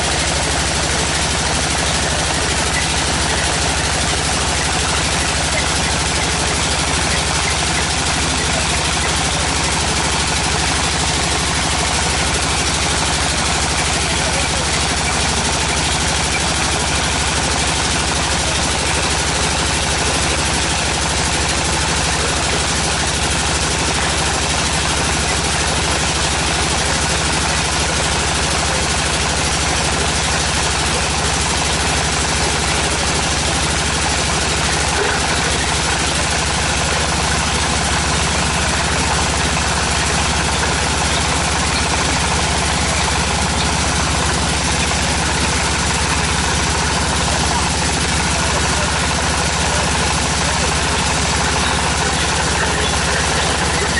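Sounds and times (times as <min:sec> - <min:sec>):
drilling rig engine droning: 0:00.0 - 0:53.9.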